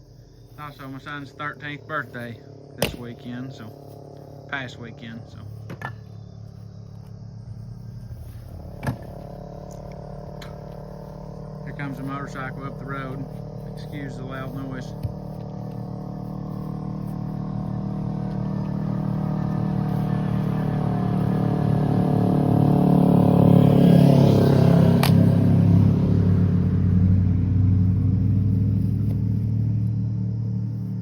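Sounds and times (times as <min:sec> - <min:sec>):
motorcycle passing: 0:00.0 - 0:31.0.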